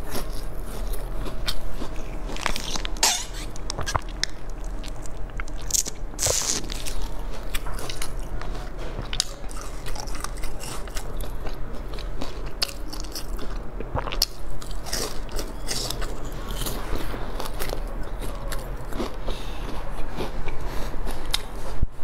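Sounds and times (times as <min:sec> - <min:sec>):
person chewing and crunching food: 0:00.0 - 0:22.0
steady low hum: 0:00.0 - 0:22.0.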